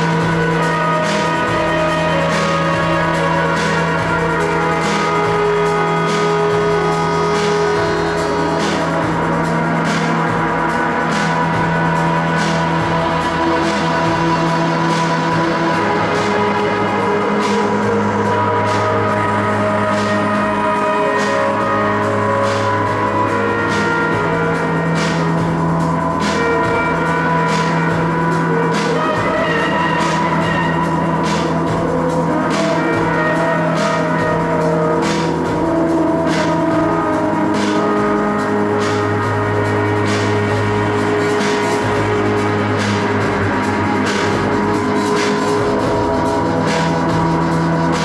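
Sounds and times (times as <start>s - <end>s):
layered electronic drone tones: 0.0s - 48.0s.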